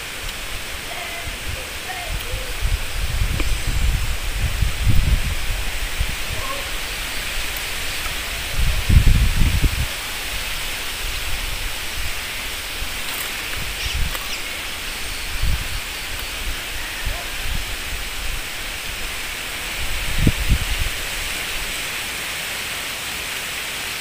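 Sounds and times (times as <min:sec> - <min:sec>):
leafy branches rustling: 0:00.0 - 0:24.0
steady outdoor hiss: 0:00.0 - 0:24.0.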